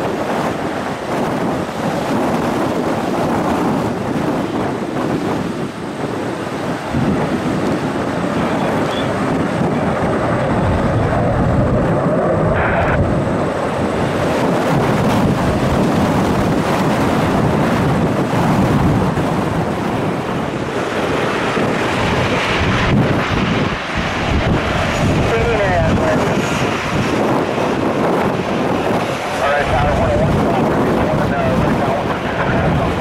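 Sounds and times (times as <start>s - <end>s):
jet engine noise: 0.0s - 33.0s.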